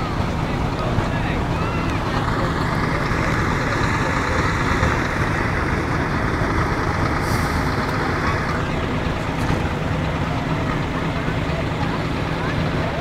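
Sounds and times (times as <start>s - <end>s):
diesel engines idling: 0.0s - 13.0s.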